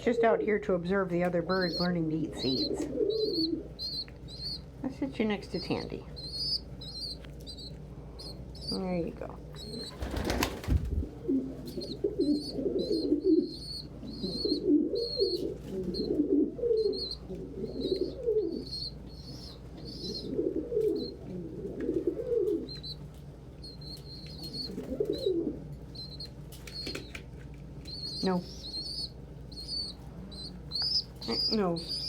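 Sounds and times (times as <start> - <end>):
pigeons cooing: 0.0 - 4.7, 9.6 - 32.0
young pigeon peeping: 0.0 - 32.0.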